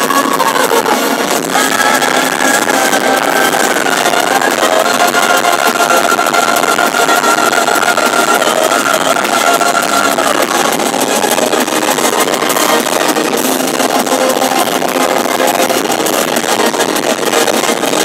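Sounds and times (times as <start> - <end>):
metal band playing live: 0.0 - 18.0.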